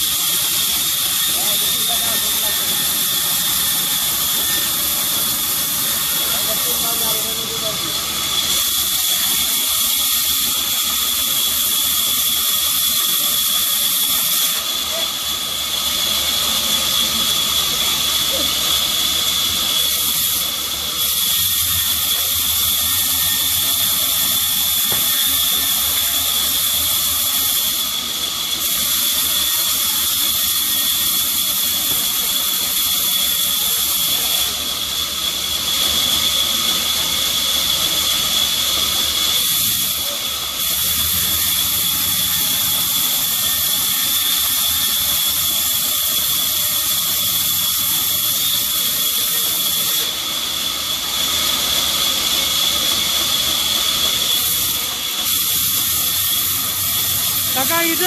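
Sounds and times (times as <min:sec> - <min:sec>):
band saw cutting wood: 0:00.0 - 0:58.0.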